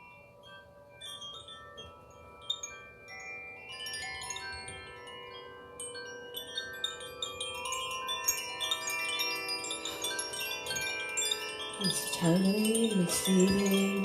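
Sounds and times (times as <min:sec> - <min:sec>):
chimes ringing: 0:00.0 - 0:14.0.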